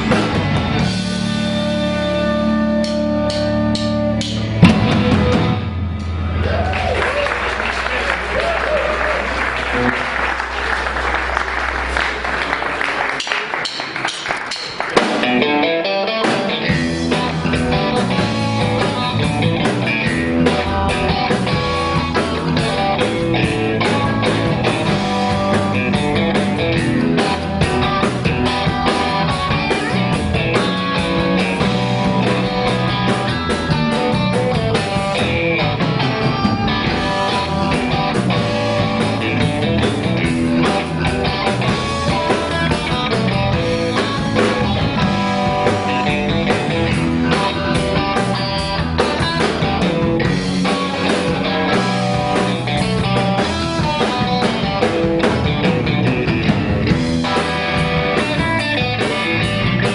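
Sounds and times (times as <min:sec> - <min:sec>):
electric guitar lines: 0:00.0 - 0:59.9
live blues-rock band: 0:00.0 - 0:59.9.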